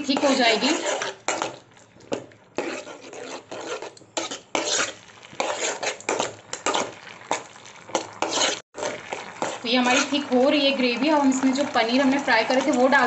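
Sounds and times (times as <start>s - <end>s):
metal spoon scraping pan: 0.0s - 10.4s, 11.4s - 13.0s.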